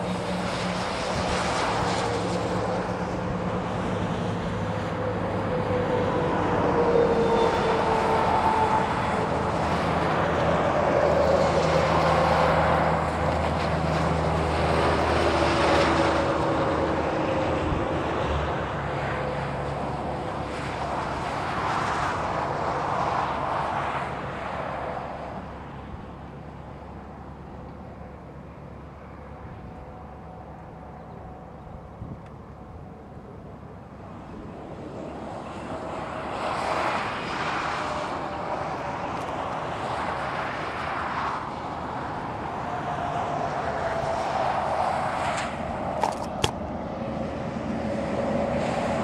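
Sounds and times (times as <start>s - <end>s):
freight train passing: 0.0s - 49.0s.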